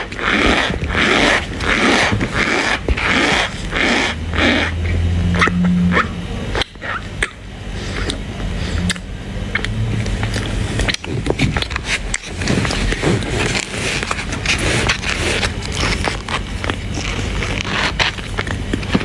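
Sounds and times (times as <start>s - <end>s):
cornstarch crunching and squeaking: 0.0s - 19.0s.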